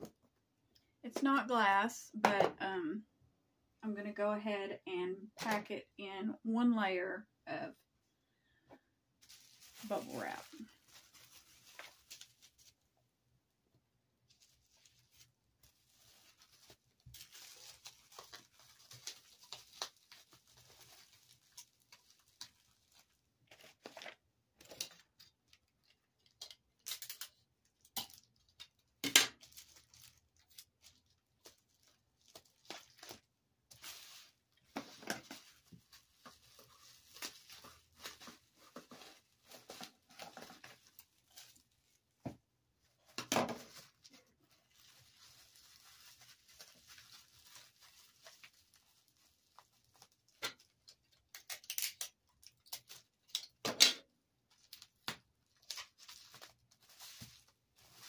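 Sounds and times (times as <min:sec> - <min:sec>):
bubble wrap crinkling: 0:09.2 - 0:13.2, 0:14.2 - 0:53.6, 0:54.4 - 0:58.0.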